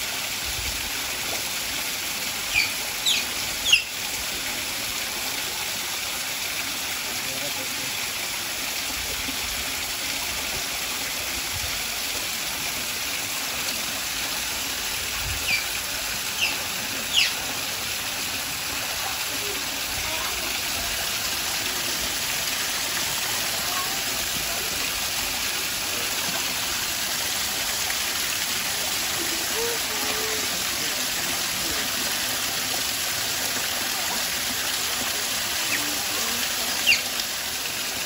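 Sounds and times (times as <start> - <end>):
flowing pool water: 0.0 - 38.0.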